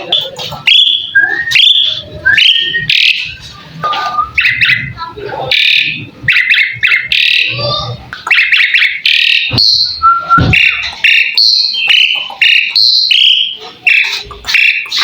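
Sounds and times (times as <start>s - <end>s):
starling singing: 0.0s - 15.0s.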